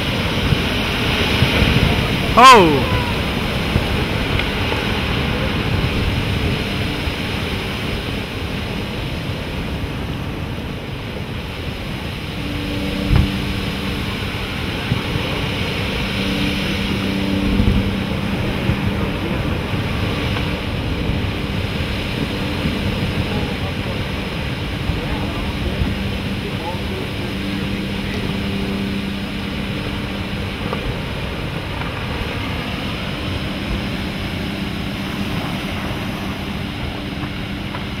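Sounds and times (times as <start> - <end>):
low steady hum: 0.0 - 38.0
ocean surf: 0.0 - 38.0
wind buffeting microphone: 0.0 - 38.0.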